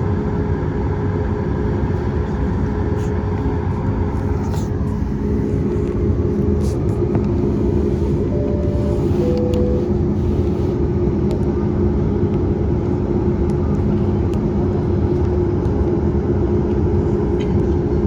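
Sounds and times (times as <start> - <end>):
jet engine cabin rumble: 0.0 - 18.0.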